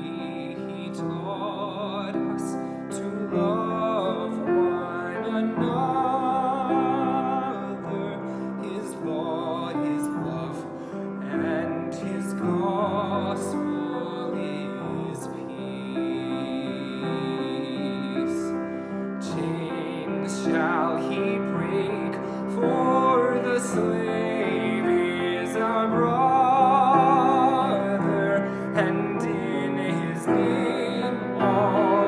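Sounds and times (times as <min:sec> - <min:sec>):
classical solo voice singing: 0:00.0 - 0:32.0
piano accompaniment: 0:00.0 - 0:32.0.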